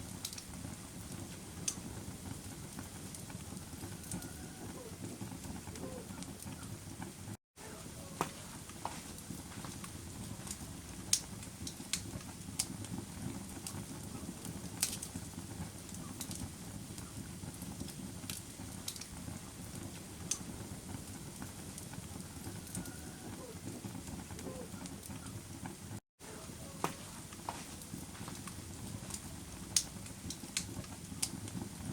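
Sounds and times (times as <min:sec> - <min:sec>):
burning wood crackling and popping: 0:00.0 - 0:31.9
low rumble of flames: 0:00.0 - 0:31.9.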